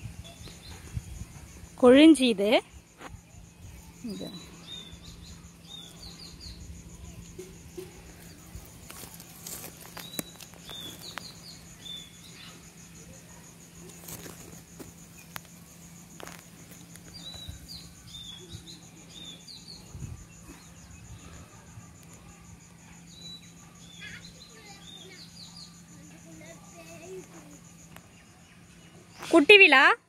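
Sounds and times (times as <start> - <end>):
insect trill: 0.0 - 30.0
small bird chirping: 0.1 - 29.5.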